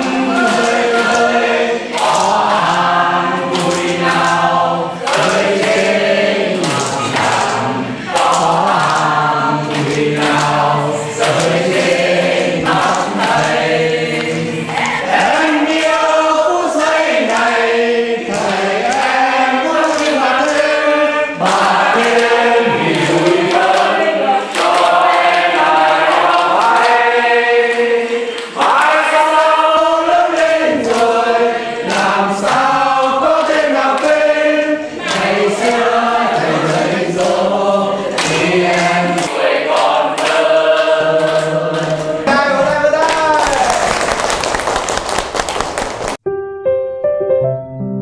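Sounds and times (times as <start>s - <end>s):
group singing in chorus: 0.0s - 42.7s
hands clapping: 0.0s - 46.2s.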